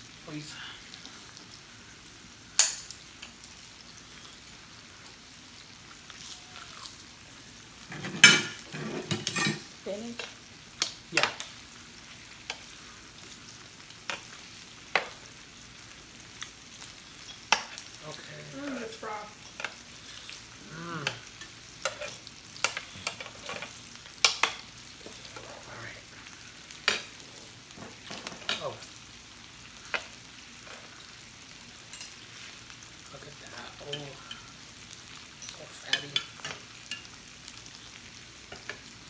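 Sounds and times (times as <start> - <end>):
meat sizzling on a grill: 0.0 - 39.0.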